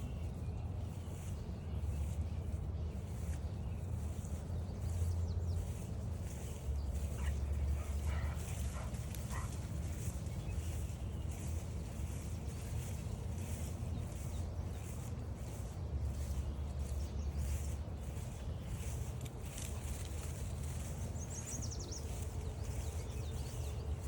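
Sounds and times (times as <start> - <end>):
footsteps swishing through grass: 0.0 - 24.0
low wind rumble: 0.0 - 24.0.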